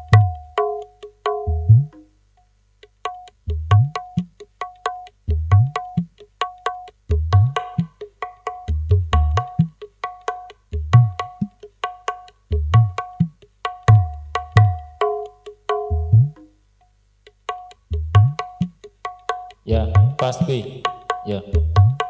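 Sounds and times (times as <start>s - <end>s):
hand drumming through a sound system: 0.0s - 2.1s, 2.8s - 16.5s, 17.3s - 22.0s.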